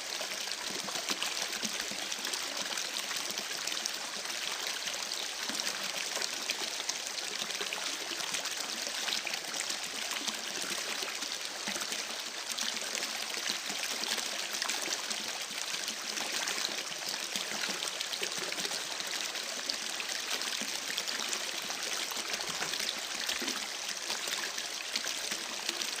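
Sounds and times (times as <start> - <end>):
stream babbling over stones: 0.0 - 26.0.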